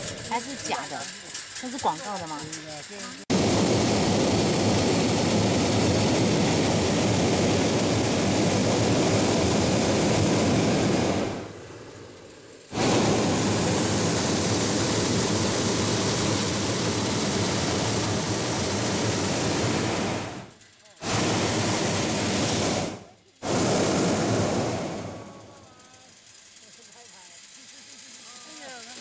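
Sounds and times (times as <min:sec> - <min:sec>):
propane burner firing: 0:00.0 - 0:29.0.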